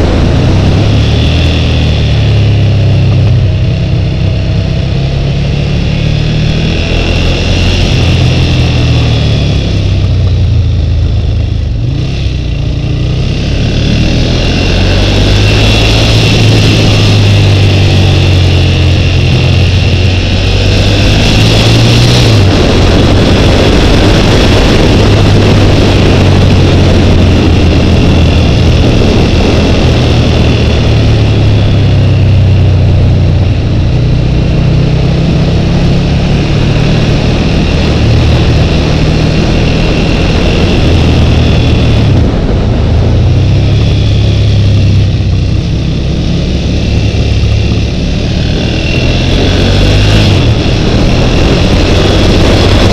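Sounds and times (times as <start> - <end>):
motorcycle engine running: 0.0 - 52.9
wind rushing over microphone: 0.0 - 52.9.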